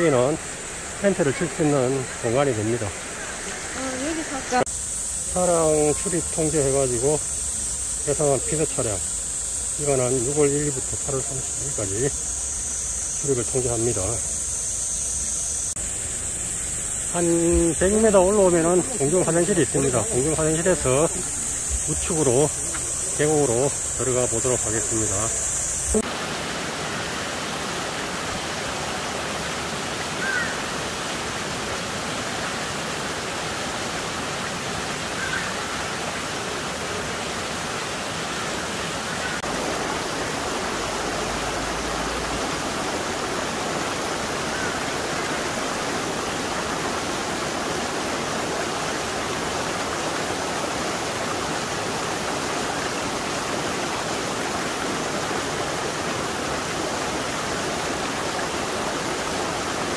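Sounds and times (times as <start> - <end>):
stream rushing over rocks: 0.0 - 14.6, 15.7 - 59.9.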